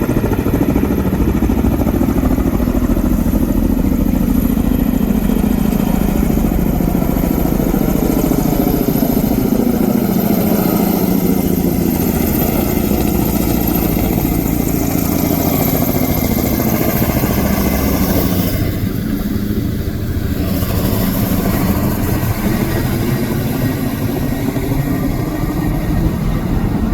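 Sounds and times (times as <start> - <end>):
helicopter engine and rotor: 0.0 - 26.9.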